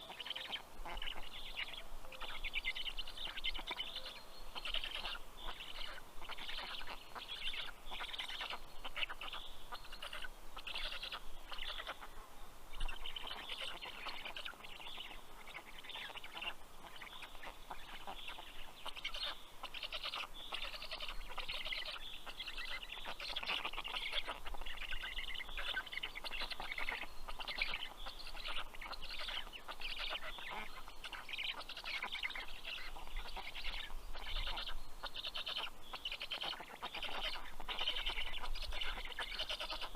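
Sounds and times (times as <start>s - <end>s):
stork chicks chirping: 0.0s - 39.9s.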